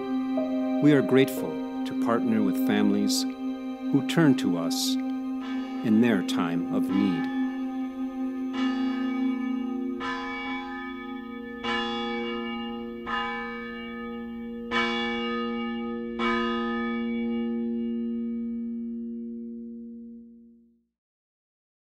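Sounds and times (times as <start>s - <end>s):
church bell tolling: 0.0s - 20.4s.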